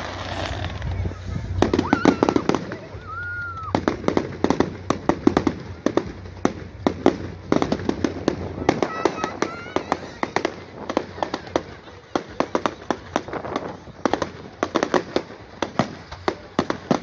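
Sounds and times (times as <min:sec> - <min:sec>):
firework whistling: 0:00.0 - 0:17.0
fireworks cracking and banging: 0:00.0 - 0:17.0.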